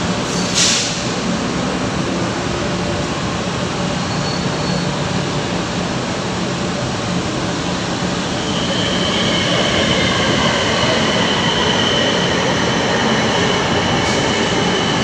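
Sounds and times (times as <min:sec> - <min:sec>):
heavy road traffic: 0:00.0 - 0:15.0
light rail train approaching: 0:00.0 - 0:15.0.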